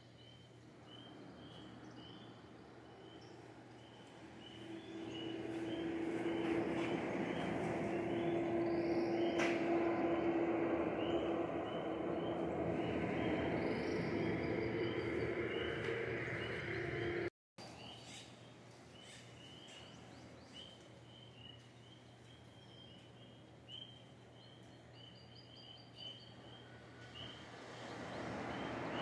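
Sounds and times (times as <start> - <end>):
bird chirping: 0.0 - 29.0
steady mechanical hum: 0.0 - 29.0.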